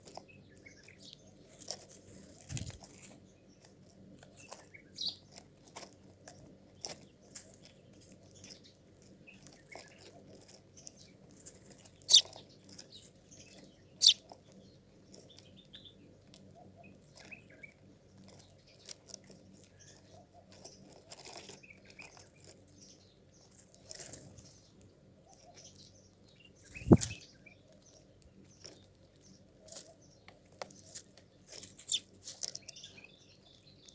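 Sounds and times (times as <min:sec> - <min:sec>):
clicks and crunching: 0:00.0 - 0:25.9, 0:26.9 - 0:33.9
small birds chirping: 0:00.0 - 0:33.9.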